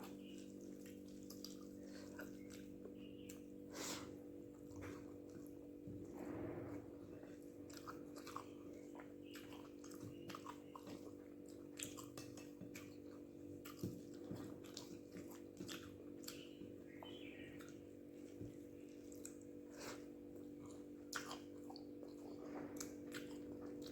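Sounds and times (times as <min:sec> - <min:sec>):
faint hum: 0:00.0 - 0:23.9
person chewing food: 0:00.0 - 0:23.9.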